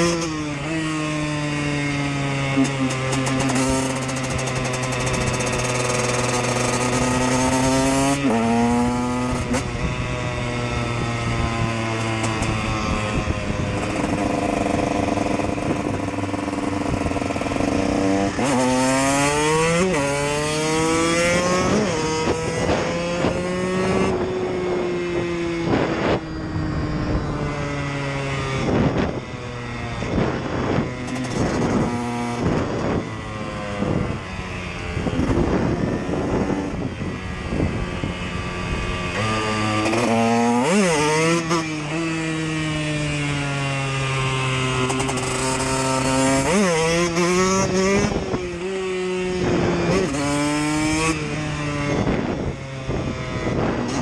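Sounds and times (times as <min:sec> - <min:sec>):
dirt bike engine accelerating: 0:00.0 - 0:54.0.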